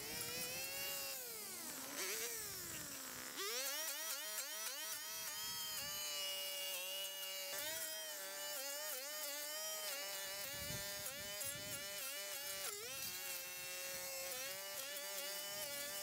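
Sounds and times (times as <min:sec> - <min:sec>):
power tool motor whining: 0:00.0 - 0:16.0.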